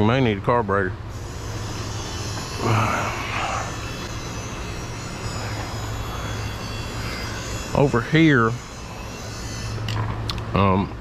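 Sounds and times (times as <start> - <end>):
chainsaw engine idling high: 1.1 - 10.0.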